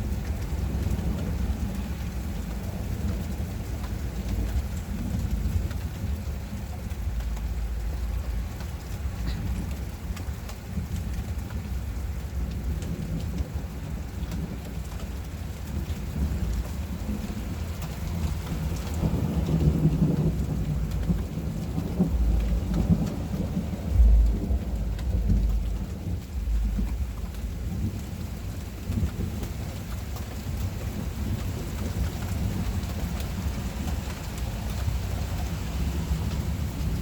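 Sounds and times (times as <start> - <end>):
heavy rain falling: 0.0 - 37.0
low rolling thunder: 0.0 - 37.0.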